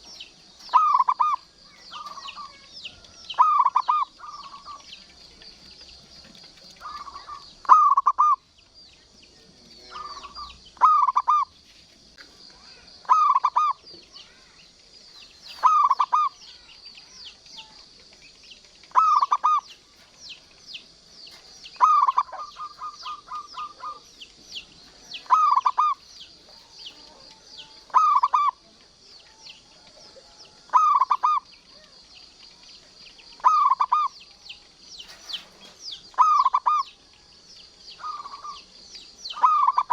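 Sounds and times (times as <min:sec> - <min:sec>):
high-pitched chirping: 0:00.0 - 0:05.2, 0:06.8 - 0:08.6, 0:09.8 - 0:11.6, 0:12.6 - 0:29.6, 0:30.3 - 0:39.9
dove cooing: 0:00.0 - 0:08.6, 0:09.8 - 0:11.6, 0:12.6 - 0:14.8, 0:15.4 - 0:32.0, 0:33.3 - 0:34.4, 0:35.0 - 0:37.0, 0:37.9 - 0:39.9.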